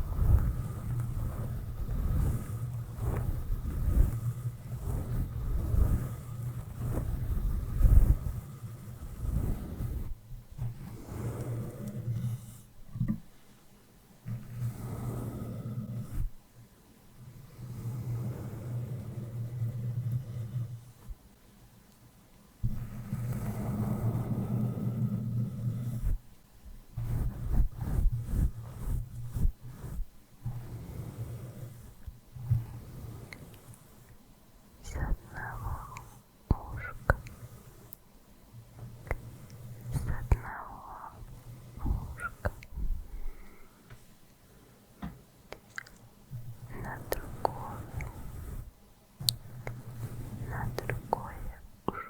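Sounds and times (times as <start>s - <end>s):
brush stroking over microphone: 0.0s - 16.5s, 17.2s - 21.3s, 22.6s - 44.7s, 45.6s - 52.0s.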